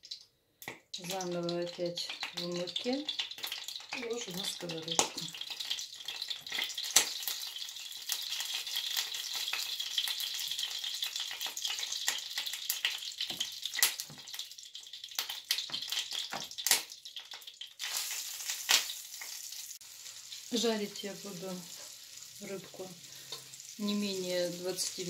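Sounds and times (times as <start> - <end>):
fish frying in oil: 0.0 - 25.0.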